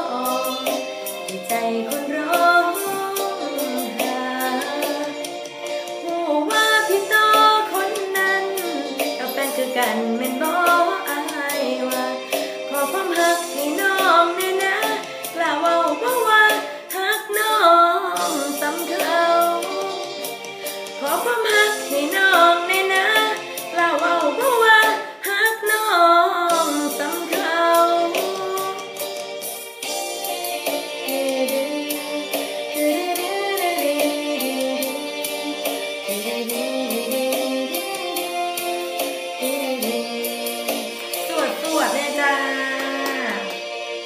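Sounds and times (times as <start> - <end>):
woman singing: 0.0 - 29.1, 30.7 - 43.7
instrumental backing track: 0.0 - 44.0.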